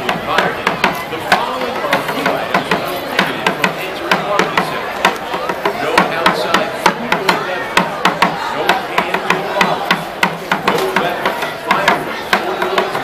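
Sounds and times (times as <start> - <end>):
crowd voices: 0.0 - 13.0.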